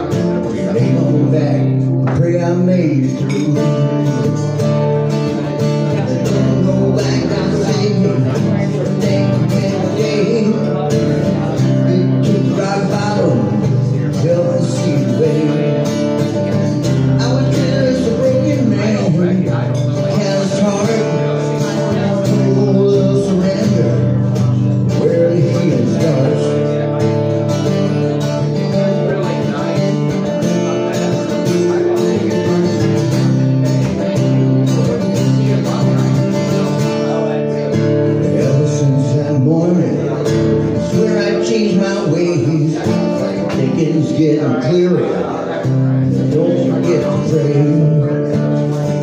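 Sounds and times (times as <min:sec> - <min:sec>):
acoustic guitar strumming: 0:00.0 - 0:49.0
man singing: 0:00.0 - 0:49.0.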